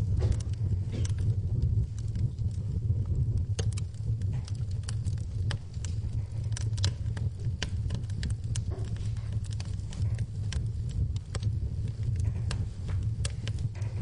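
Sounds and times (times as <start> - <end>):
low rumble of flames: 0.0 - 14.0
sharp pops and snaps: 0.0 - 14.0
wood fire crackling: 0.0 - 14.0.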